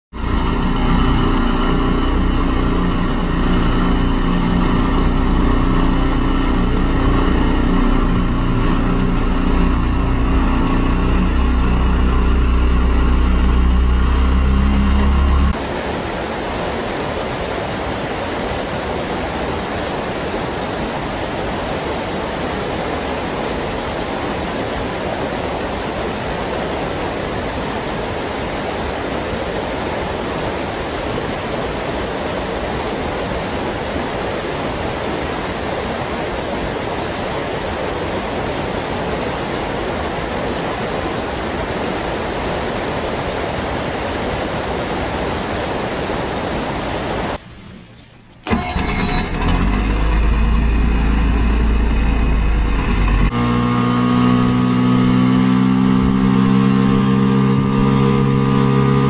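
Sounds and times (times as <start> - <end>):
water rushing over rocks: 0.1 - 59.0.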